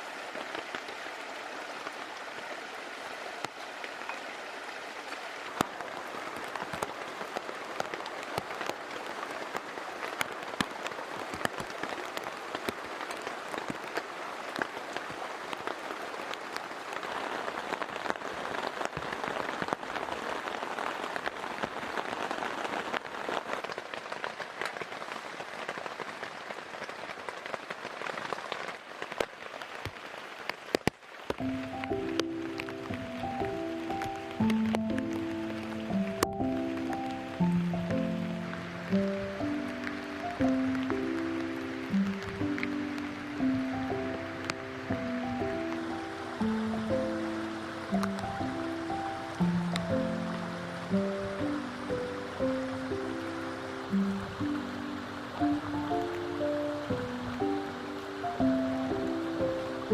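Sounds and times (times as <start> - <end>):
raindrops tapping: 0.0 - 59.9
steady rain falling: 0.0 - 59.9.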